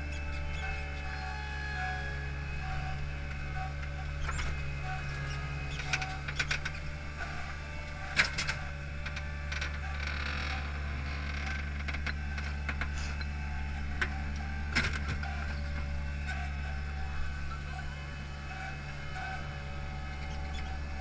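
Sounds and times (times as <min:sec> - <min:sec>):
paving machine engine whining: 0:00.0 - 0:21.0.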